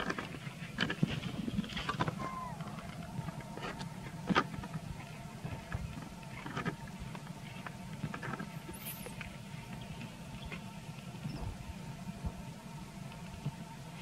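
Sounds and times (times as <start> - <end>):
monkeys scuffling on stone: 0.0 - 11.4
low background hum: 0.0 - 14.0.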